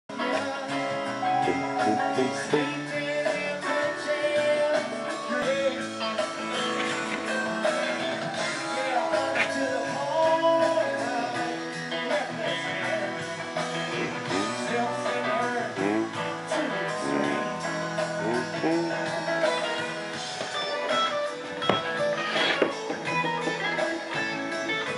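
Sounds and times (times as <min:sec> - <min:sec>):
guitar music with bent notes: 0:00.1 - 0:24.9.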